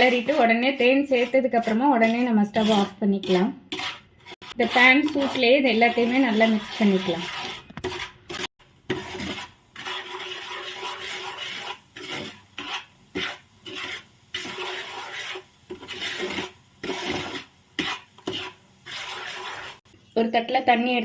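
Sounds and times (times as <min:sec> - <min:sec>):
utensil scraping thick syrup in pan: 0:00.0 - 0:19.9.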